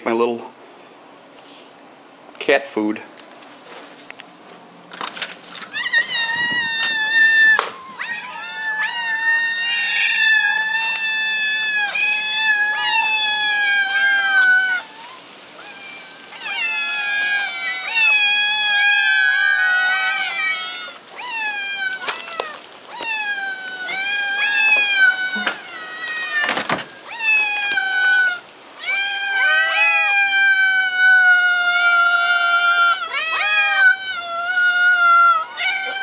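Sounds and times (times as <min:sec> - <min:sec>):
cats meowing: 0:05.5 - 0:36.0.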